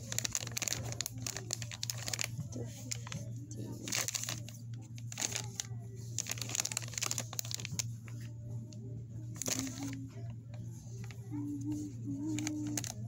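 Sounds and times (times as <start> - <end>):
rustling and crinkling: 0.0 - 13.0
steady low hum: 0.0 - 13.0.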